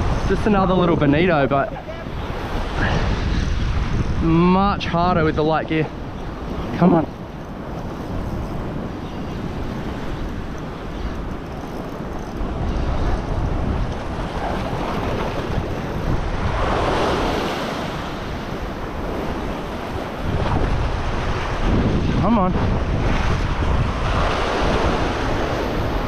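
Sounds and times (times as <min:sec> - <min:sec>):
ocean swell washing over rocks: 0:00.0 - 0:26.0
wind buffeting microphone: 0:00.0 - 0:26.0.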